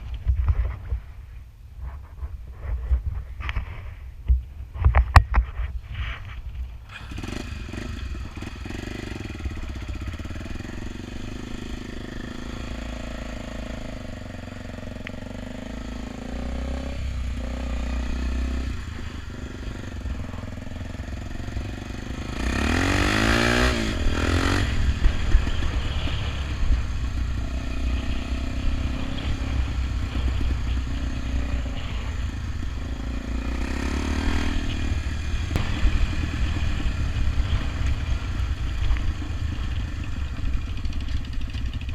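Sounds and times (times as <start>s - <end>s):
motorcycle engine revving: 6.9s - 41.9s.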